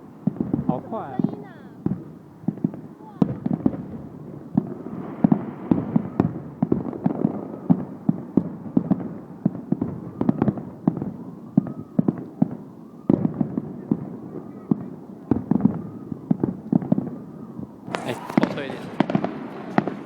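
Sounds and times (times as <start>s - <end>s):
firework whistles: 0.0s - 20.0s
fireworks bangs and crackles: 0.0s - 20.0s.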